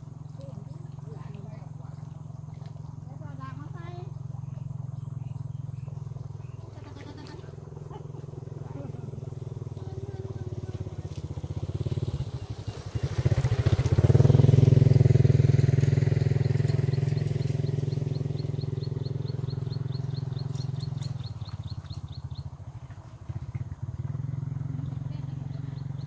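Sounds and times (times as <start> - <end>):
small vehicle engine passing: 0.0 - 26.0.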